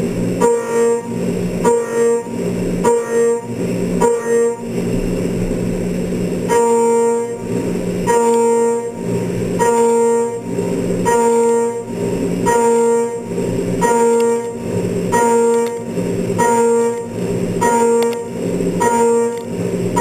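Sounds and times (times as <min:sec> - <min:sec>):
milling machine cutting steel: 0:00.0 - 0:20.0.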